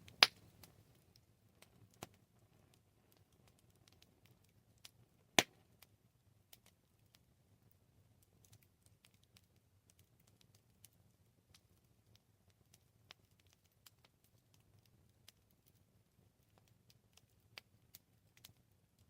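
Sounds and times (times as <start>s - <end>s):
campfire crackling: 0.0s - 19.0s
low rumble of fire: 0.0s - 19.0s.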